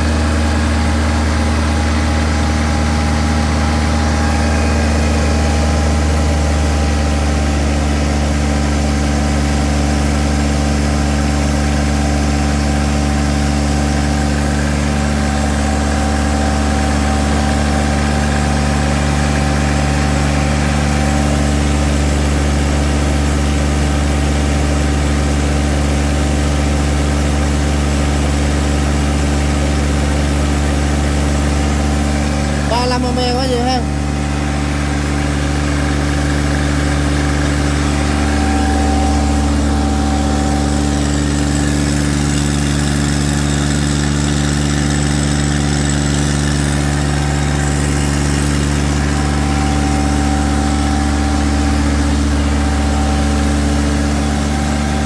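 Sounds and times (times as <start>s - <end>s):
diesel generator running: 0.0s - 55.0s.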